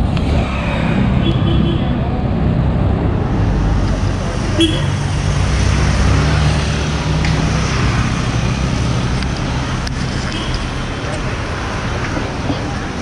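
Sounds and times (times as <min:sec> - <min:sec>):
traffic engines humming: 0:00.0 - 0:13.0.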